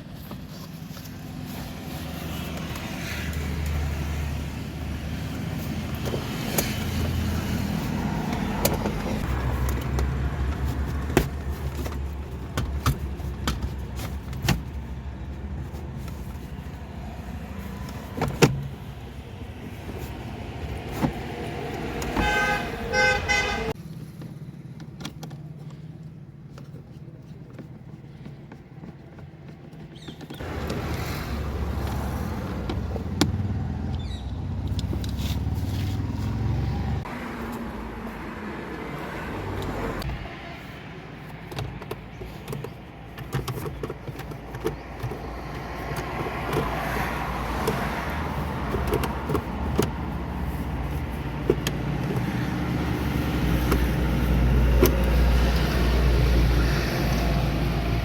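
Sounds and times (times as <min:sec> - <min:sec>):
vehicle low rumble: 0:00.0 - 0:58.0.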